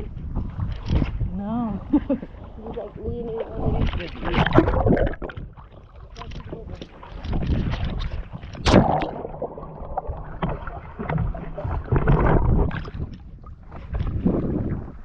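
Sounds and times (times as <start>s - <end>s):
water splashing and sloshing: 0.0s - 15.0s
wind on microphone: 0.0s - 15.0s.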